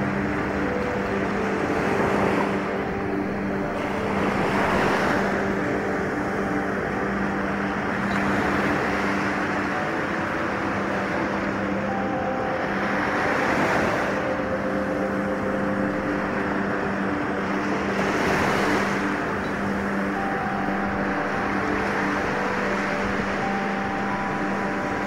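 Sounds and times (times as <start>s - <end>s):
soft ambient music chords: 0.0s - 25.0s.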